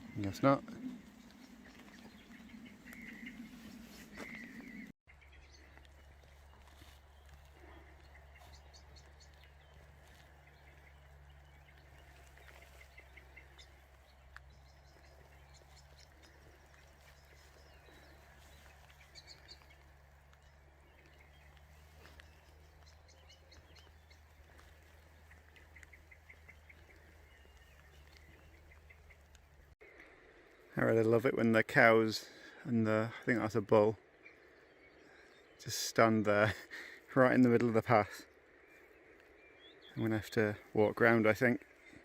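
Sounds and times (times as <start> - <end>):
faint birds chirping: 0.0 - 42.0.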